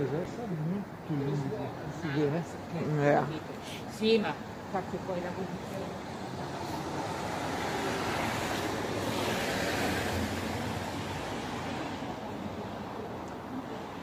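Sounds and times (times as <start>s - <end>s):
street traffic hiss: 0.0s - 14.0s
vehicle passing: 1.2s - 14.0s.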